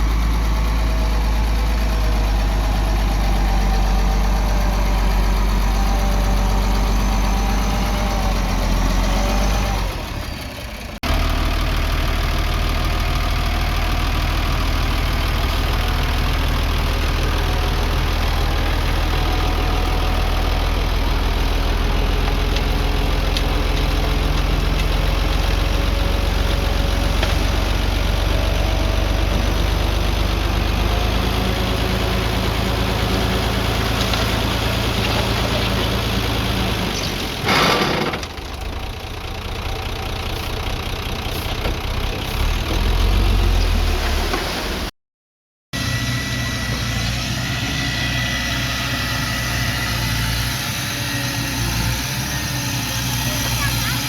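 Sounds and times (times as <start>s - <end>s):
diesel engine running: 0.0s - 44.9s, 45.8s - 54.0s.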